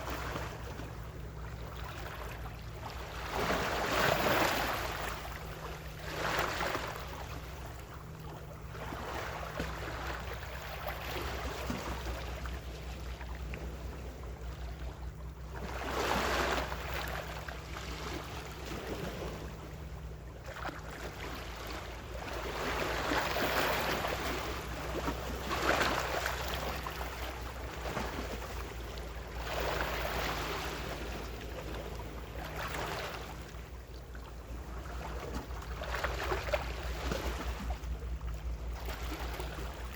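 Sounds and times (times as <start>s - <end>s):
ocean waves washing ashore: 0.0s - 39.9s
steady low hum: 0.0s - 39.9s.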